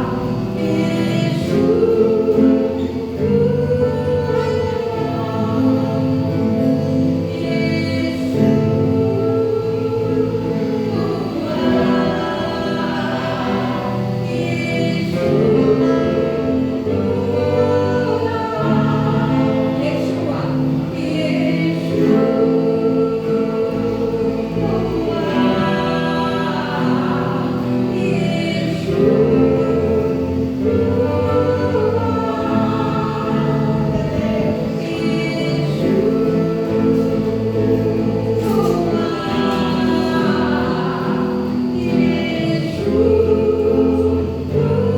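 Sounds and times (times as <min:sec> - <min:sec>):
gospel singing voices: 0:00.0 - 0:44.9
low musical accompaniment: 0:00.0 - 0:44.9.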